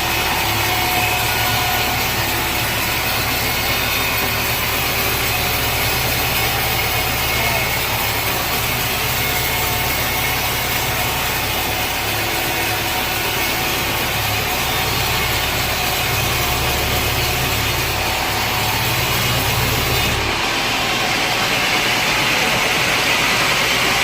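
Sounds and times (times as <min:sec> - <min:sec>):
sawmill machinery humming: 0:00.0 - 0:24.0.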